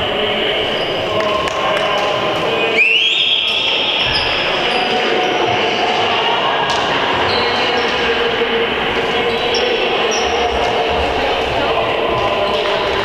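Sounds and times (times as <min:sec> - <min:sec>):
wash of hall noise: 0:00.0 - 0:13.0.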